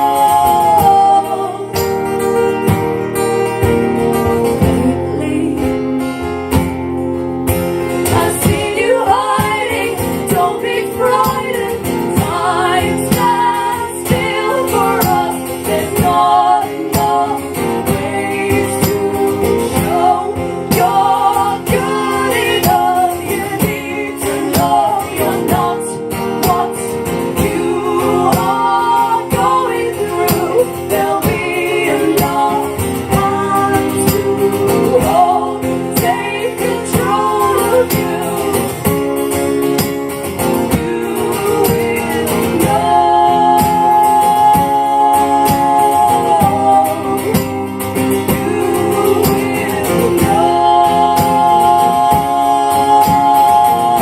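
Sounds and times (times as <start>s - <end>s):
women singing: 0.0s - 2.8s, 4.4s - 6.2s, 7.8s - 54.0s
strummed acoustic guitar: 0.0s - 54.0s.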